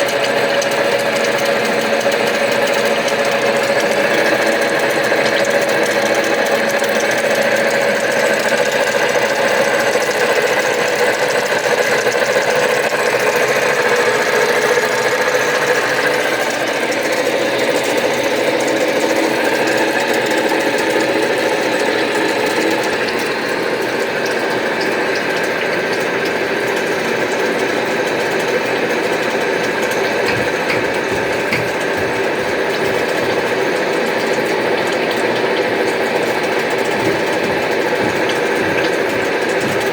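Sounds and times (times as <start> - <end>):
lathe gearbox running: 0.0 - 39.9.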